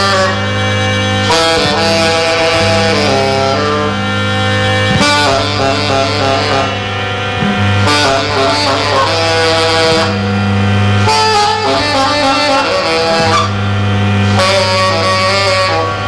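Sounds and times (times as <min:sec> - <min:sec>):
bass long low notes: 0:00.0 - 0:16.0
harmonium chords: 0:00.0 - 0:16.0
saxophone wavering lines: 0:00.0 - 0:16.0.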